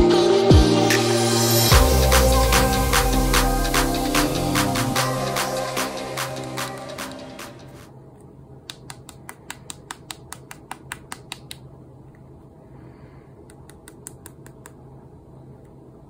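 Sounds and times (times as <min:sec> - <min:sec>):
low steady hum: 0:01.4 - 0:16.0.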